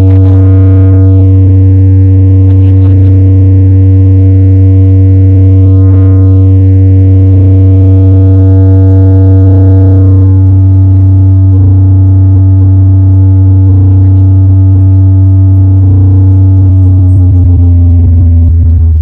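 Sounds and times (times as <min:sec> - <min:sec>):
deep bass drone: 0:00.0 - 0:19.0
held synth chord: 0:00.0 - 0:19.0.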